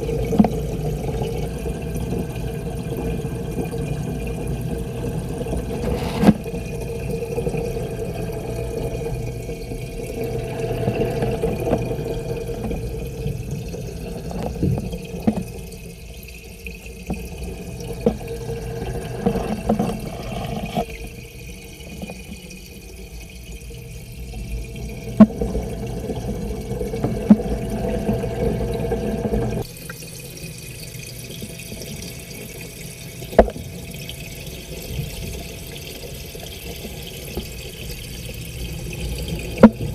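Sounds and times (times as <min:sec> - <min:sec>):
water rushing: 0:00.0 - 0:29.7, 0:30.4 - 0:39.9
aquarium pump hum: 0:00.0 - 0:39.9.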